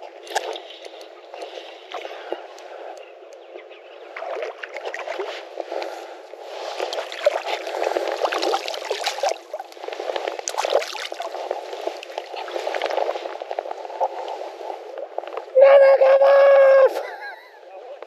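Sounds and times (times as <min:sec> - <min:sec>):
creek water rushing and babbling: 0:00.0 - 0:14.9.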